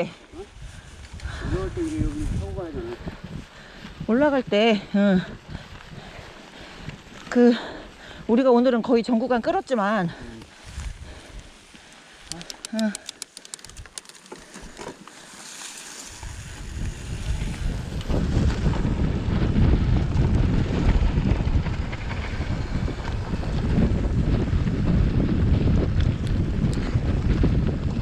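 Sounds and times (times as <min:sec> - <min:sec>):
wind buffeting microphone: 0:00.0 - 0:11.6, 0:16.1 - 0:28.0.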